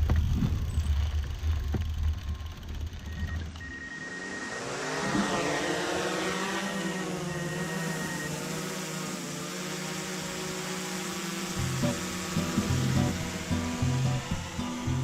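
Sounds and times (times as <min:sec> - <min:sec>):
whirring tyres and drivetrain: 0:00.0 - 0:15.0.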